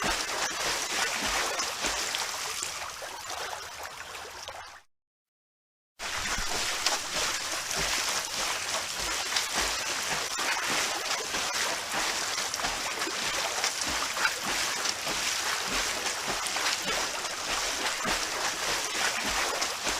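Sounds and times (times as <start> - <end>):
swimmers splashing in pool water: 0.0 - 3.8, 6.0 - 19.9.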